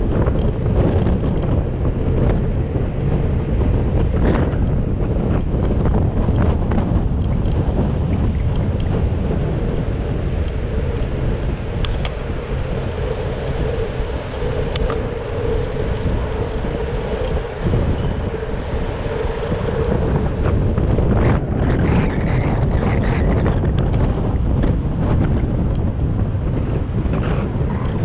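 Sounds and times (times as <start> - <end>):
steady hum: 0.0 - 28.0
wind buffeting microphone: 0.0 - 28.0.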